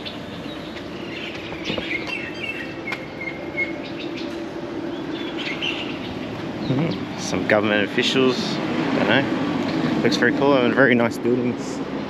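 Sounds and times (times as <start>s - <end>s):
birds chirping: 0.0s - 11.2s
steady low hum: 0.0s - 12.0s.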